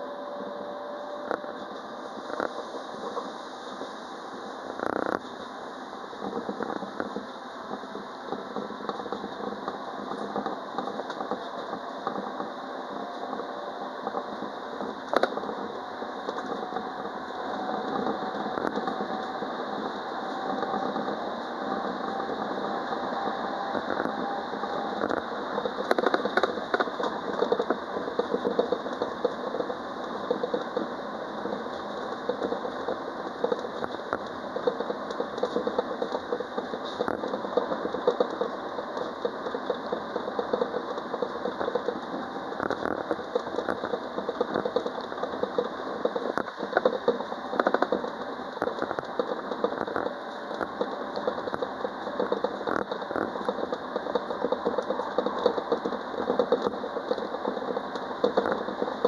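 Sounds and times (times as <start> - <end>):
tram running on rails: 0.0 - 59.0
small clicks and rattles: 6.2 - 59.0.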